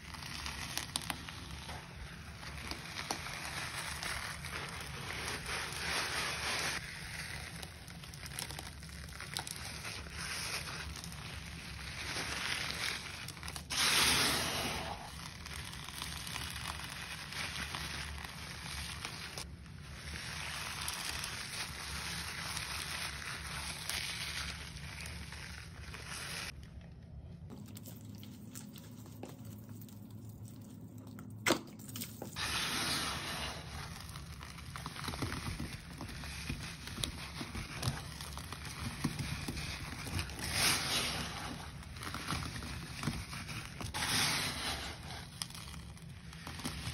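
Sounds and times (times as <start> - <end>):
gloved hands crunching cleaning powder: 0.0 - 46.9.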